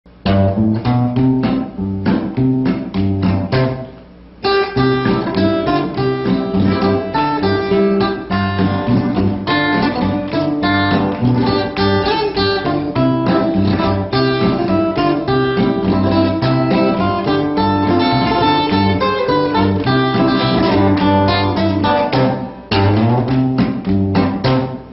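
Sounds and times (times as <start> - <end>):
acoustic guitar playing: 0.1 - 24.9.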